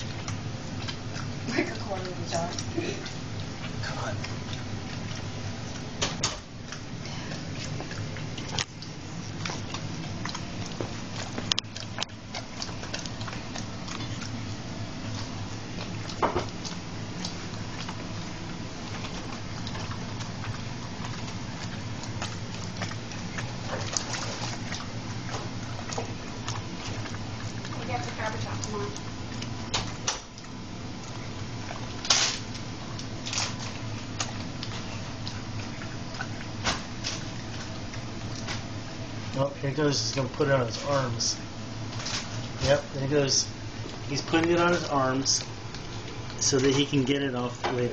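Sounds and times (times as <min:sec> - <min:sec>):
dog licking and smacking lips: 0:00.0 - 0:47.6
low steady hum: 0:00.0 - 0:47.9.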